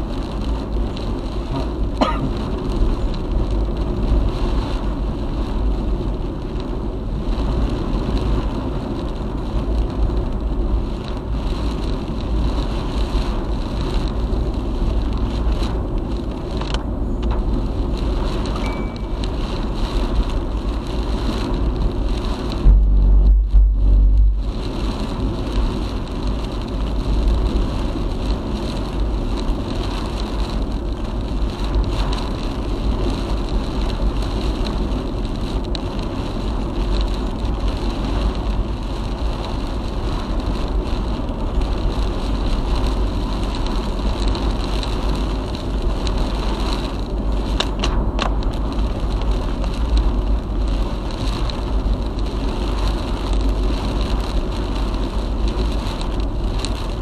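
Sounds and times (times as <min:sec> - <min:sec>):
low rumble: 0:00.0 - 0:57.0
rain on car: 0:00.0 - 0:57.0
tyre road noise: 0:00.0 - 0:57.0
wind noise: 0:00.0 - 0:57.0.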